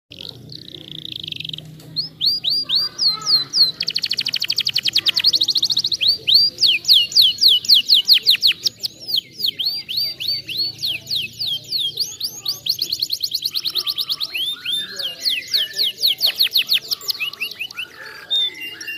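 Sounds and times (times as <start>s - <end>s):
canary singing: 0.1s - 18.9s.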